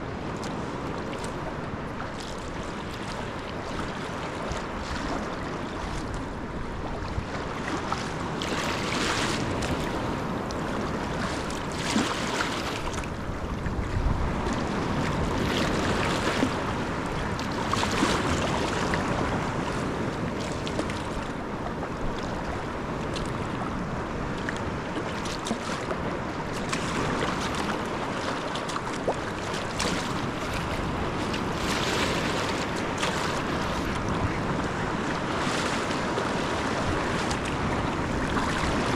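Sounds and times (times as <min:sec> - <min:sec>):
water lapping around kayak: 0:00.0 - 0:38.9
water swishing: 0:00.0 - 0:38.9
wind on microphone: 0:00.0 - 0:38.9.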